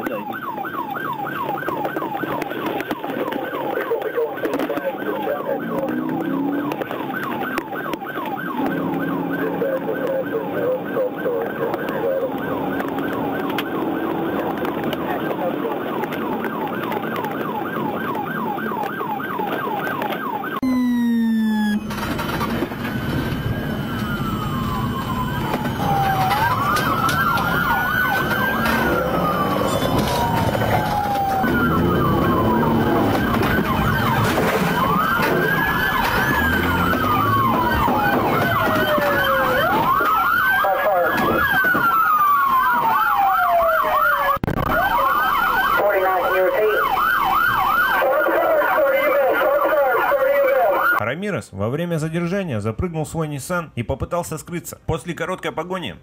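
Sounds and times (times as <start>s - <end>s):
police siren: 0.0s - 51.0s
engine and road noise: 0.0s - 51.1s.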